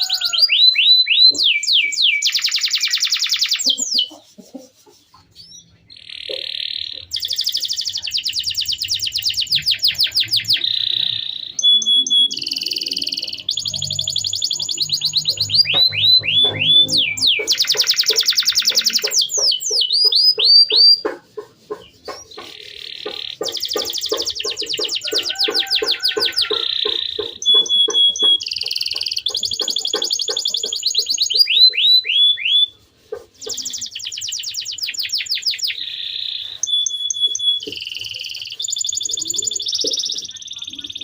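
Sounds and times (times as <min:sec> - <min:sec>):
canary singing: 0:00.0 - 0:41.0.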